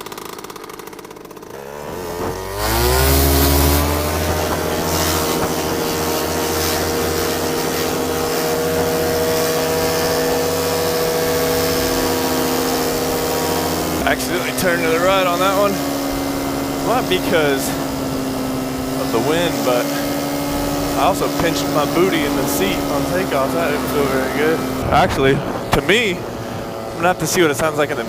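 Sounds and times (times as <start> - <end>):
paramotor engine revving: 0.0 - 28.0.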